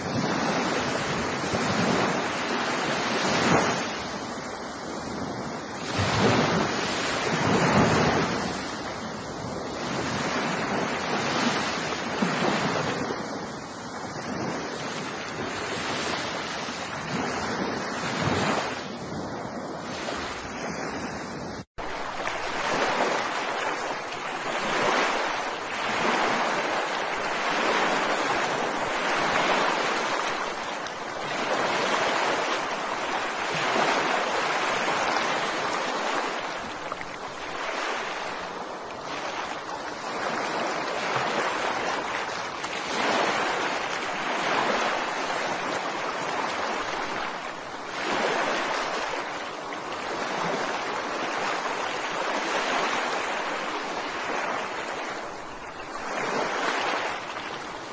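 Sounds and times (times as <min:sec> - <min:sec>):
ocean surf washing on beach: 0:00.0 - 0:57.9.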